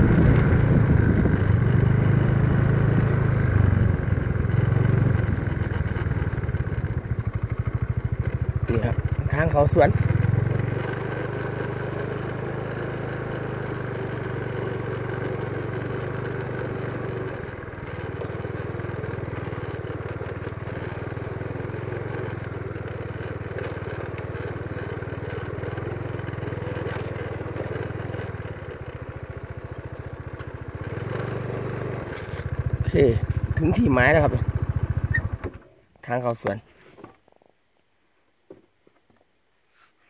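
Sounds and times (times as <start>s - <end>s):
motorcycle engine running: 0.0s - 37.2s.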